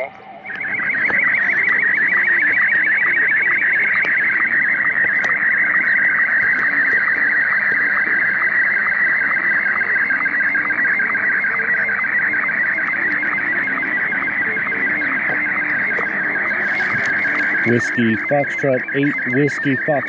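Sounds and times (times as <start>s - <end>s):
pulsing warbling radio tone: 0.0s - 20.0s.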